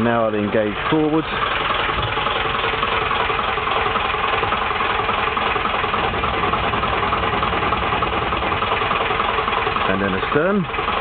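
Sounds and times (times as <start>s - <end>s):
diesel engine ticking over: 0.0s - 11.0s.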